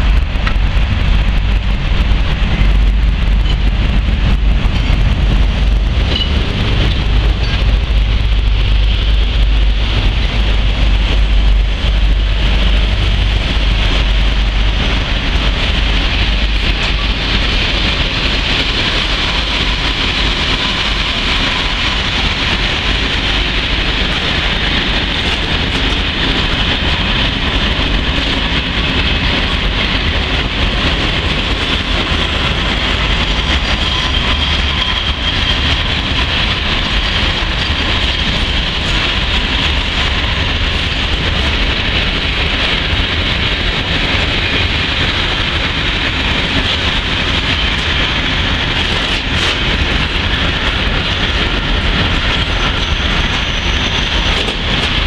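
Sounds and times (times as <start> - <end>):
freight train wheels rattling: 0.0 - 55.0.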